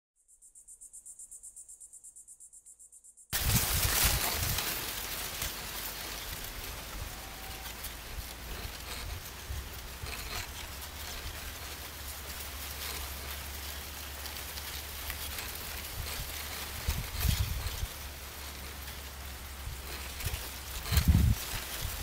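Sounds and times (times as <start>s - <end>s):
faint crackles: 3.4s - 22.0s
steady hiss: 3.4s - 22.0s.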